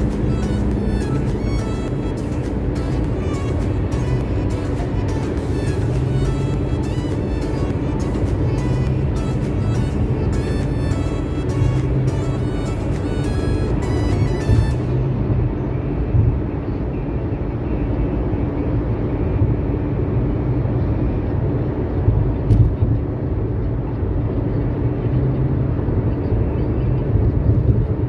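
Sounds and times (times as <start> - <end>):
car rumble at highway speed: 0.0 - 28.0.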